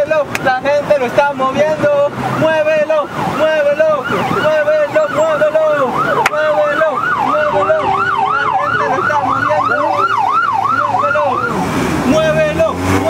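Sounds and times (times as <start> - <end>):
siren yelping: 0.4 - 12.6.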